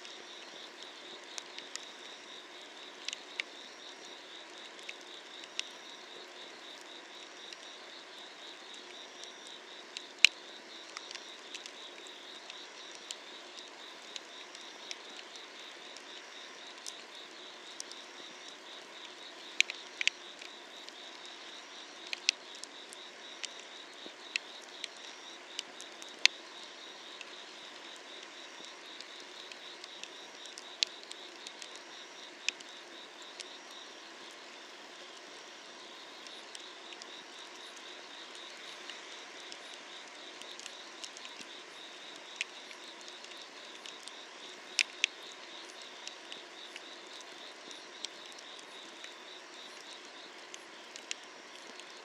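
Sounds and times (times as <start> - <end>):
insects trilling: 0.0 - 52.0
firewood crackling and popping: 3.0 - 33.5, 38.3 - 52.0.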